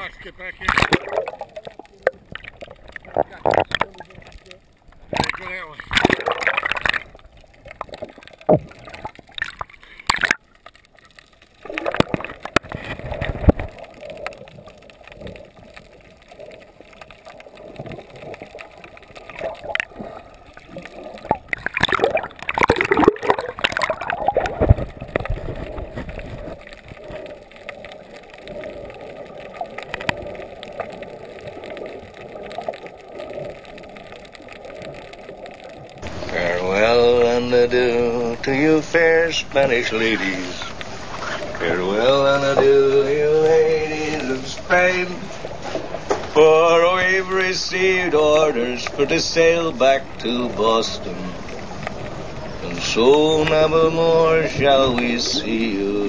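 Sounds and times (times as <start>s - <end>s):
muffled underwater gurgling: 0.0s - 10.6s, 11.6s - 56.0s
knocks and splashes: 0.6s - 10.5s, 11.6s - 35.0s, 38.6s - 51.1s.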